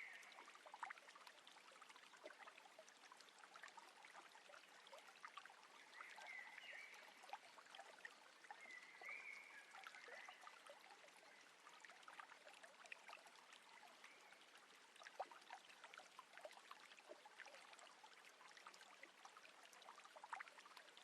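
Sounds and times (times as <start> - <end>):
drips and splashes: 0.0 - 21.0.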